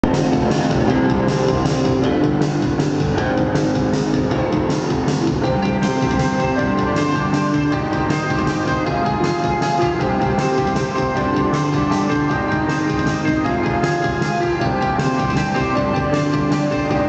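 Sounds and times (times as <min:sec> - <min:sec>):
band playing guitar bass and drums: 0:00.0 - 0:17.0.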